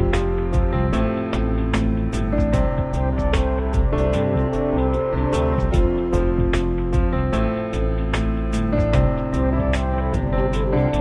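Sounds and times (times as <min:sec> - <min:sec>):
instrumental music with plucked notes: 0:00.0 - 0:11.0.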